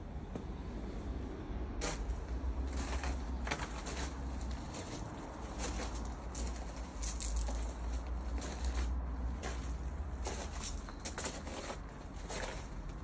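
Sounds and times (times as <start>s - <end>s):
steady low rumble: 0.0s - 13.0s
footsteps crunching on gravel: 1.8s - 13.0s.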